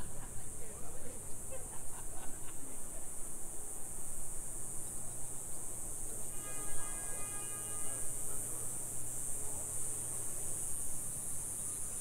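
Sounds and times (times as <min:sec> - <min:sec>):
insects buzzing: 0:00.0 - 0:12.0
street noise rumble: 0:00.0 - 0:12.0.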